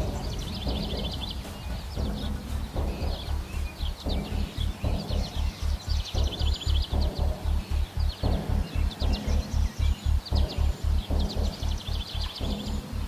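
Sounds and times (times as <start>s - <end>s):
bird trilling high chirps: 0.0s - 13.0s
low regular pulsing: 0.0s - 13.0s.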